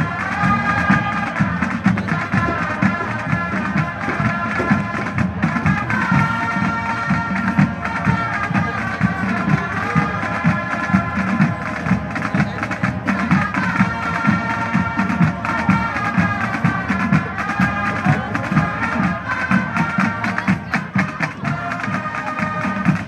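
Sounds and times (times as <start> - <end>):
marching band playing: 0.0 - 23.0.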